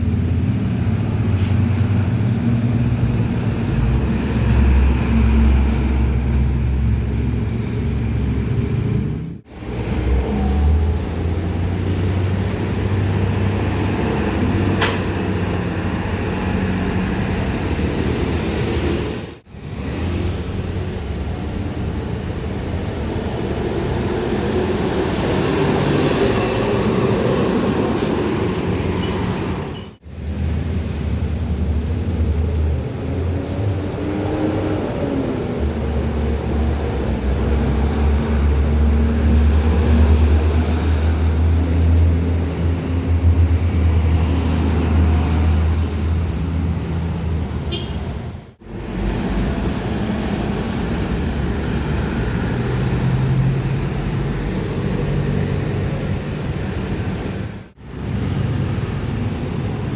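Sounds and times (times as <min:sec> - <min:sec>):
diesel truck engine rumble: 0:00.0 - 0:59.9
road noise: 0:00.0 - 0:59.9.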